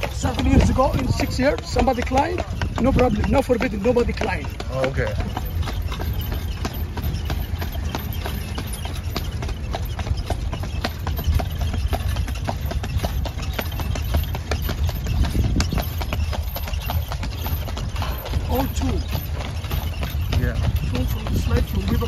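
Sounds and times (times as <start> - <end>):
hooves clip-clopping on asphalt: 0.0 - 22.0.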